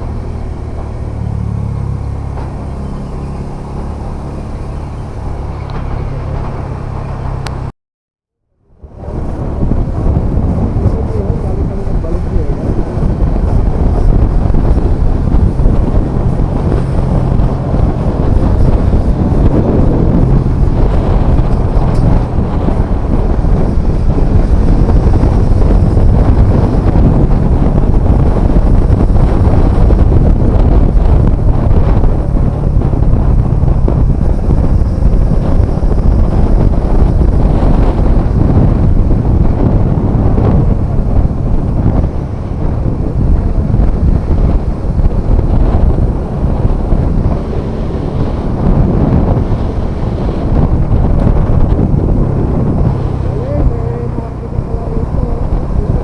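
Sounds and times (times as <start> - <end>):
motorcycle engine hum: 0.0 - 7.7, 8.5 - 56.0
wind buffeting microphone: 0.0 - 7.7, 8.7 - 56.0.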